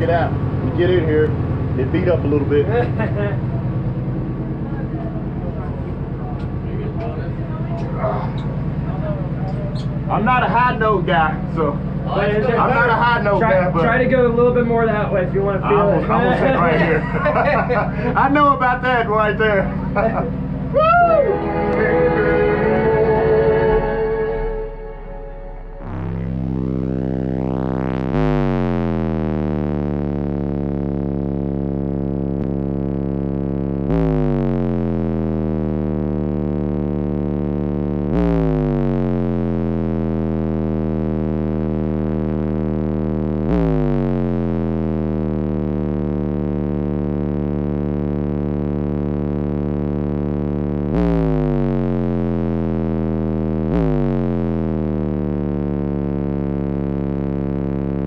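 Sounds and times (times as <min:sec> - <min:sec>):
deep synth bass notes: 0:00.0 - 0:58.0.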